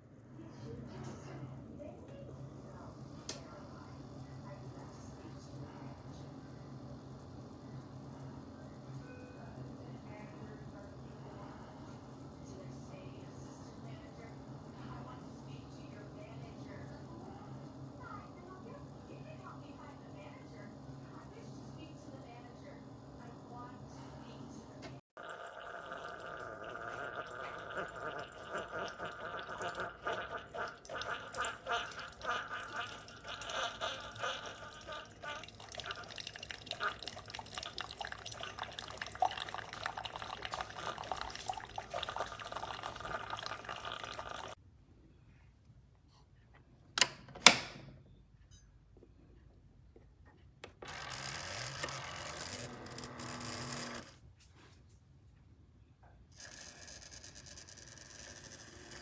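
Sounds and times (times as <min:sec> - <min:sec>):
coffee maker gurgling and sputtering: 0:00.0 - 0:44.6, 0:50.6 - 0:54.2, 0:56.4 - 0:59.0.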